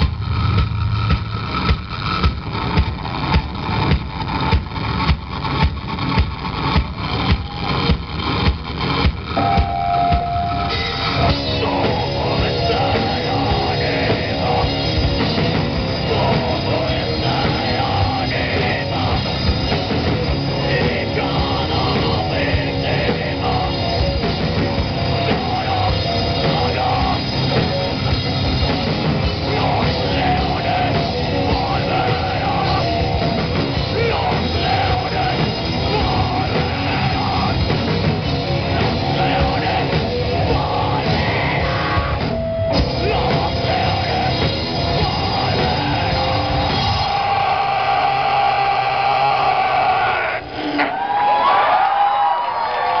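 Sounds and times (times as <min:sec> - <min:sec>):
heavy metal band playing: 0:00.0 - 0:53.0.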